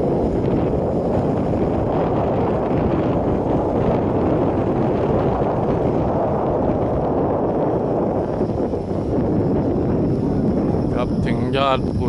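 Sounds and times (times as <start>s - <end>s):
car engine rumble: 0.0s - 12.0s
road noise inside car: 0.0s - 12.0s.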